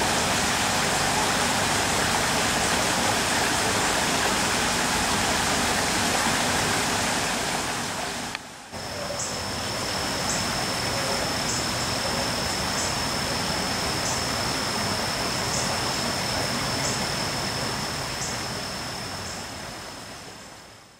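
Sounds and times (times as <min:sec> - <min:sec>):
thin high whine: 0:00.0 - 0:19.9
running water rushing: 0:00.0 - 0:20.9.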